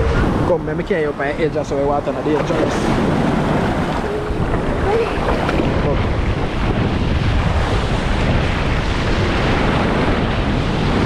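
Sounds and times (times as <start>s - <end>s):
ocean surf: 0.0s - 11.0s
wind buffeting microphone: 0.0s - 11.0s.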